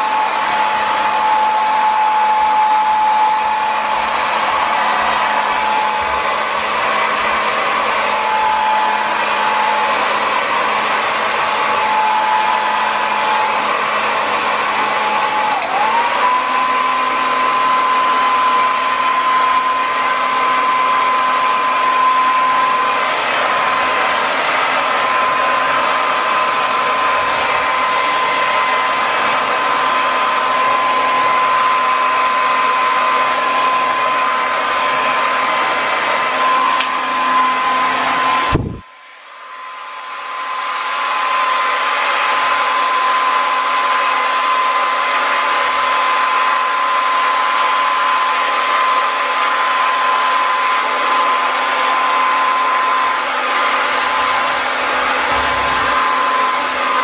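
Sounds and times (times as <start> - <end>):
hair dryer blowing: 0.0 - 57.0.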